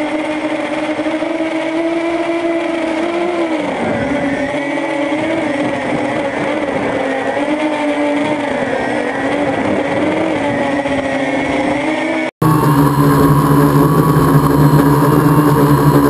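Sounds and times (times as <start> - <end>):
drone motors humming: 0.0 - 16.0.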